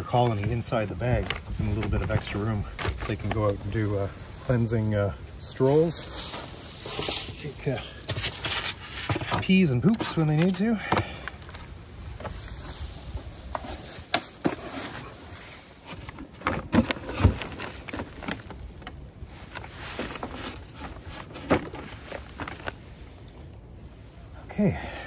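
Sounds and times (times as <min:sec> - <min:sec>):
rustling and crunching dry leaves: 0:00.1 - 0:23.9.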